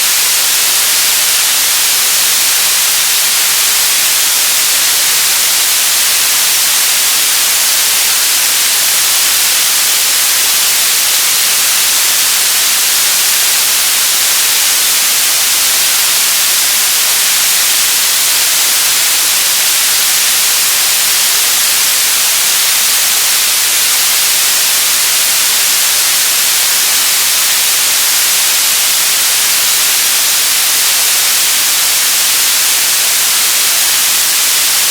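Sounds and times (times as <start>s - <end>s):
television static hiss: 0.0s - 34.9s.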